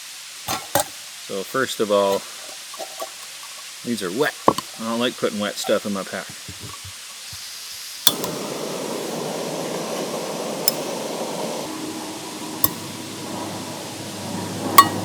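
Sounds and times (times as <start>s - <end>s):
camp stove burner hissing: 0.0s - 15.0s.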